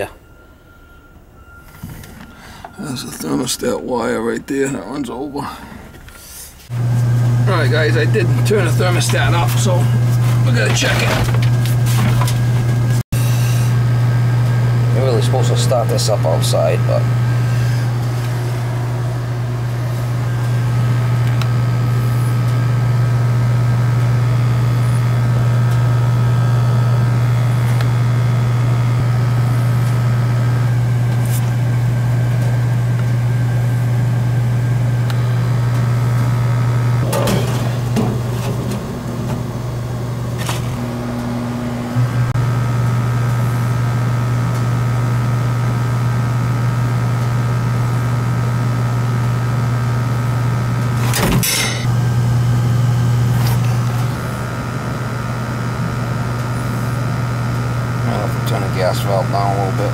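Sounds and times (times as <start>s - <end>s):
gas furnace humming: 0.0s - 59.9s.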